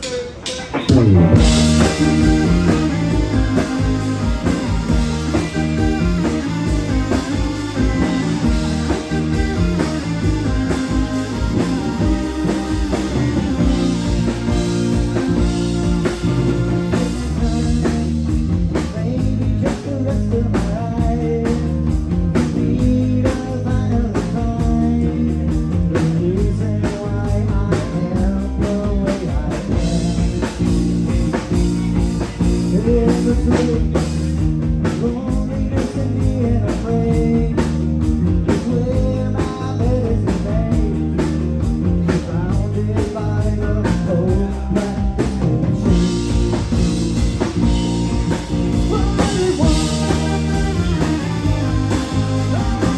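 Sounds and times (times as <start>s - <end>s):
bass guitar: 0.0s - 52.9s
bending melody line: 0.0s - 52.9s
drum kit beat: 0.0s - 52.9s
electric guitar: 0.0s - 52.9s.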